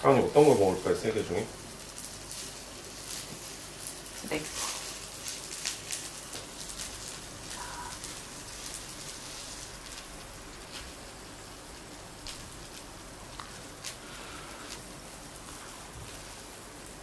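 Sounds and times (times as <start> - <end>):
meat and vegetables sizzling on grill: 0.0 - 17.0.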